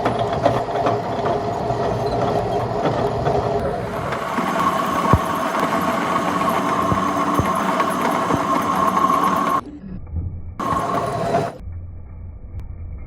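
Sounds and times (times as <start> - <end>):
machine running steadily: 0.0 - 9.7, 10.6 - 11.6.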